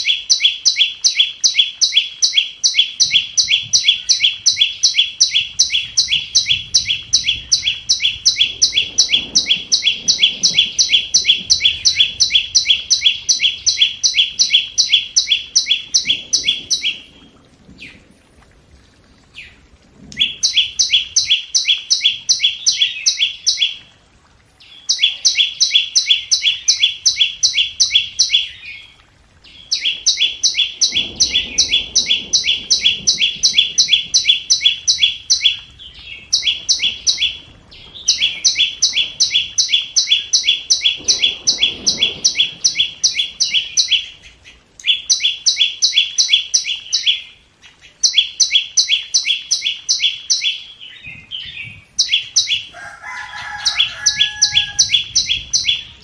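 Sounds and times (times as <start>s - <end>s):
bird ticking call: 0.0s - 17.1s, 20.2s - 23.8s, 24.7s - 28.7s, 29.6s - 37.4s, 38.0s - 55.8s.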